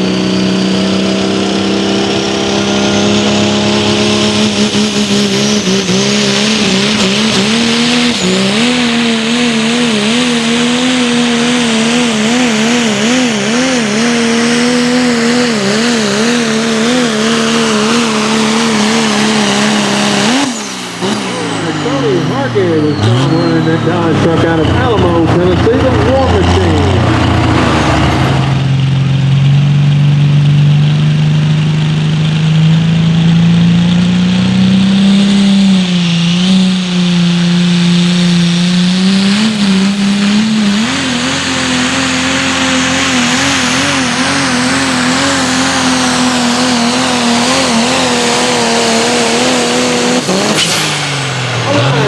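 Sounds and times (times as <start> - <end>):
diesel truck engine at full throttle: 0.0 - 52.0.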